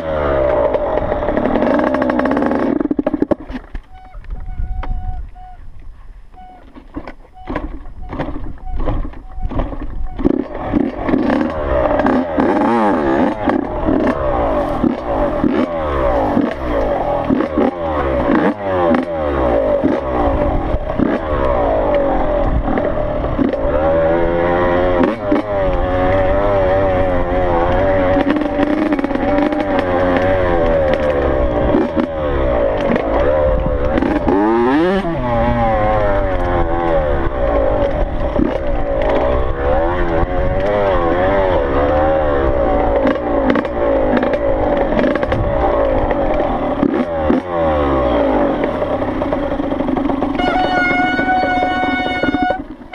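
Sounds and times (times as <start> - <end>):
two-stroke dirt bike engine revving: 0.0 - 5.5, 7.3 - 52.9.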